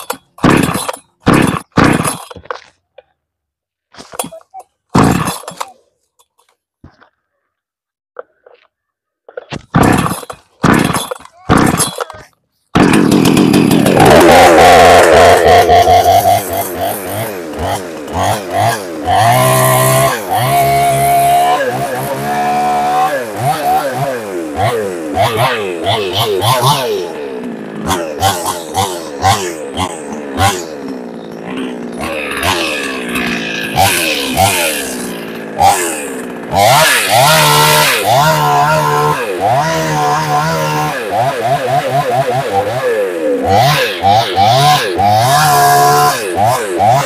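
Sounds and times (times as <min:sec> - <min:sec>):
chainsaw starting and running: 0:00.0 - 0:02.6, 0:09.8 - 0:12.1, 0:12.7 - 0:47.0.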